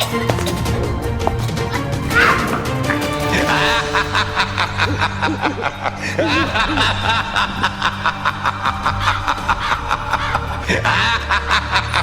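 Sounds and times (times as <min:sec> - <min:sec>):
voices chuckling and snickering: 0:00.0 - 0:12.0.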